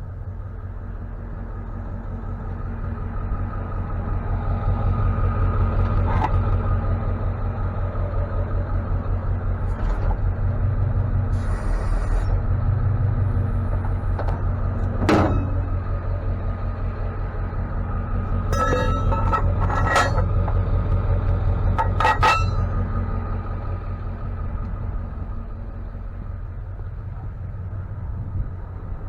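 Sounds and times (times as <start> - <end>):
truck engine and road rumble: 0.0 - 29.0.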